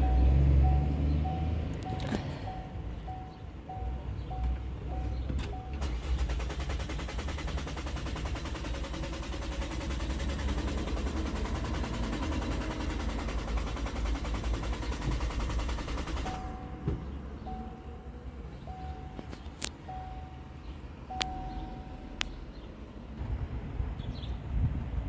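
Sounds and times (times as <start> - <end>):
car engine cranking on starter: 0.0 - 22.3.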